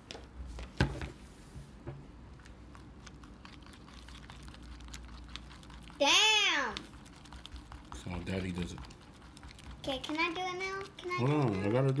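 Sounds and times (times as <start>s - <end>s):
spoon stirring slime: 2.2s - 12.0s.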